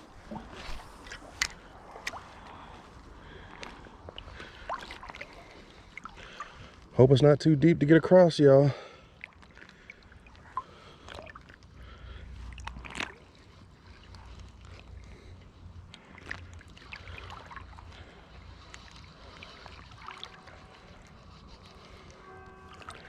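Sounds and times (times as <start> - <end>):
legs wading through water: 0.0 - 7.0, 8.7 - 23.0
low water rumble: 0.0 - 23.0.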